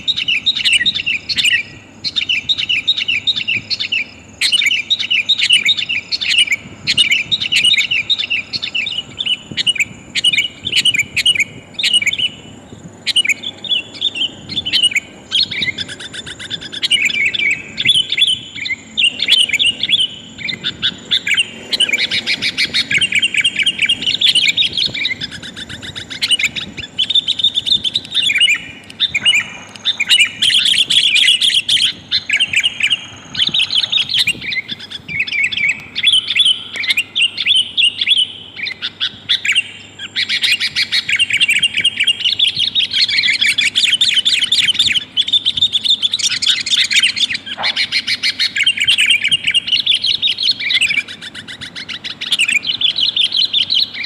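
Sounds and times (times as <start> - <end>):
bulbul chirping and calling: 0.0 - 54.0.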